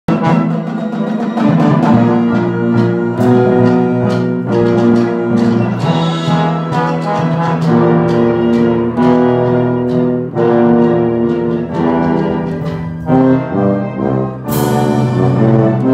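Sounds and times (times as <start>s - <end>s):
brass chords: 0.1s - 15.9s
tuba low notes: 0.1s - 15.9s.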